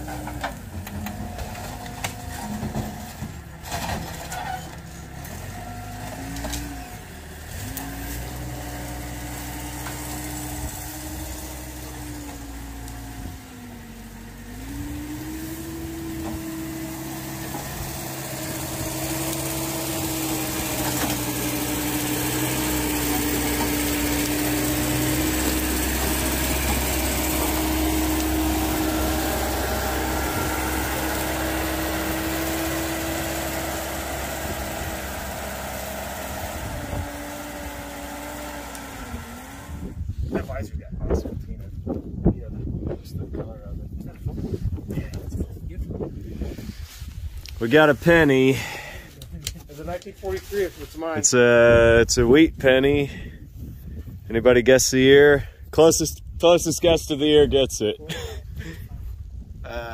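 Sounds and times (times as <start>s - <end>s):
diesel engine under load: 0.0s - 40.9s, 44.3s - 59.9s.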